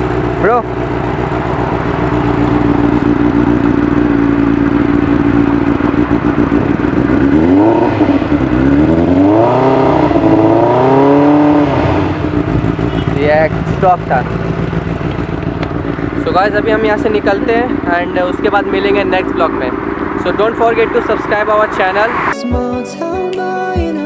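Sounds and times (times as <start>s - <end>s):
motorcycle engine idling and revving: 0.0s - 22.4s.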